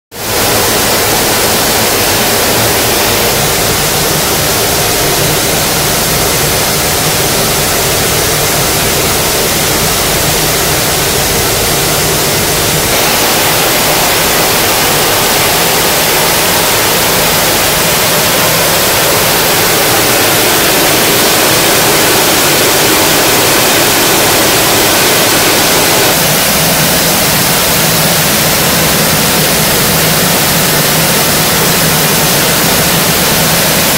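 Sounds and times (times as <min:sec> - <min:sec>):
low machine hum: 0:00.2 - 0:33.9
machinery hiss: 0:00.2 - 0:33.9.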